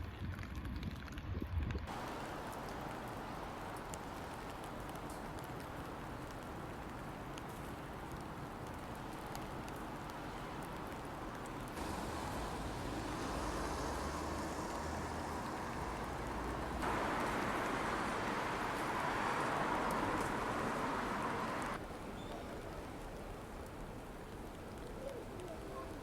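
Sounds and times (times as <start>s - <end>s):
low hum of road traffic: 1.9s - 26.0s
steady rain falling: 1.9s - 26.0s.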